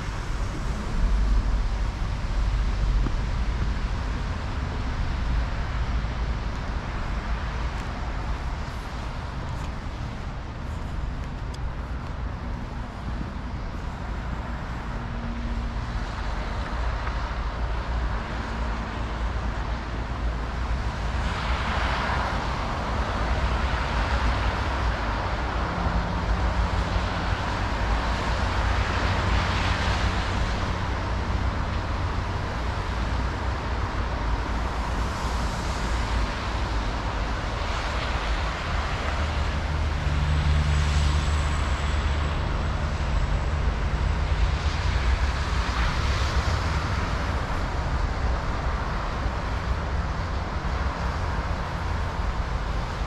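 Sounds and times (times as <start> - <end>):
low traffic rumble: 0.0 - 53.0
vehicles passing: 0.0 - 53.0.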